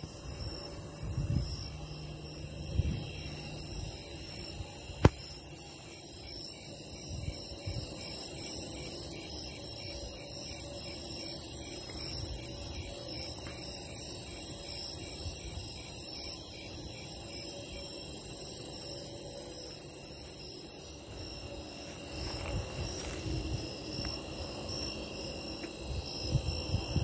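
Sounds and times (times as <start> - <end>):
crickets chirping: 0.0 - 27.0
high-pitched insect buzz: 0.0 - 27.0.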